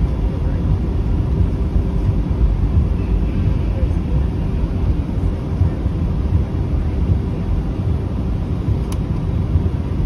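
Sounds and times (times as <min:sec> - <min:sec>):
aircraft cabin engine rumble: 0:00.0 - 0:10.0.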